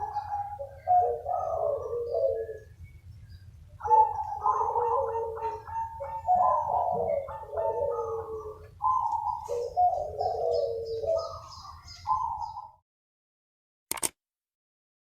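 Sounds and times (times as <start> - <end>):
doves cooing: 0.0 - 12.8.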